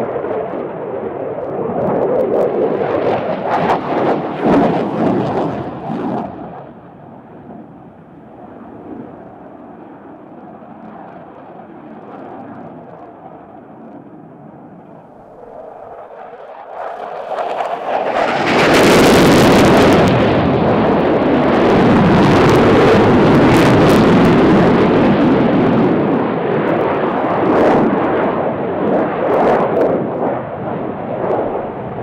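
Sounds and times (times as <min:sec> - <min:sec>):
jet engine roaring: 0:00.0 - 0:32.0.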